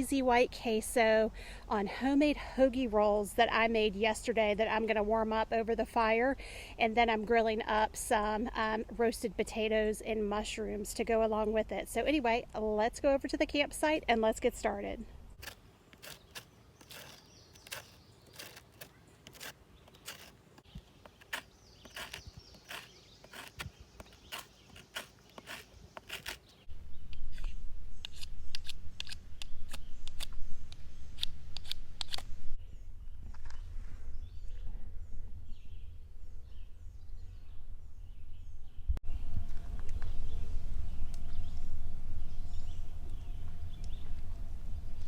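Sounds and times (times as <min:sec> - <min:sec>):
birds chirping faintly: 0:00.0 - 0:45.0.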